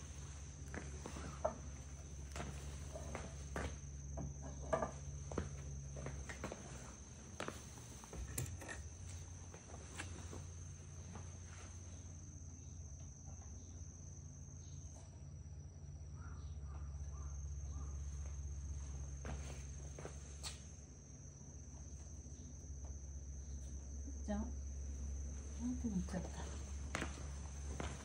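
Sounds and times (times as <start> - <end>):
crickets trilling: 0.0 - 28.0
low steady hum: 0.0 - 28.0.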